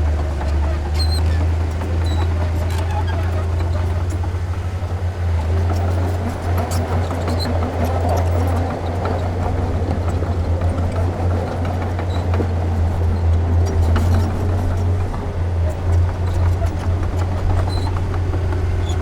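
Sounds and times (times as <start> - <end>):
bulldozer diesel engine droning: 0.0 - 19.0.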